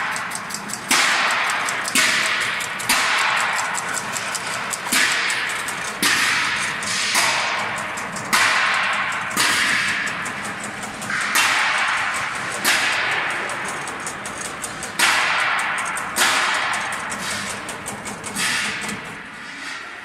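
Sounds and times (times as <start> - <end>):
vegetable cutting machine swishing: 0.8 - 19.7.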